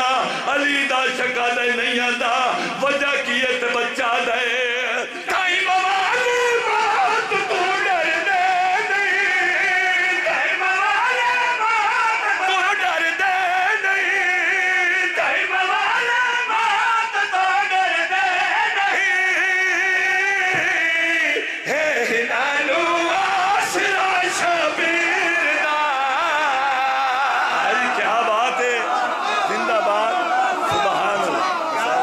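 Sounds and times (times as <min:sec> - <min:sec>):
man chanting over loudspeaker: 0:00.0 - 0:32.0.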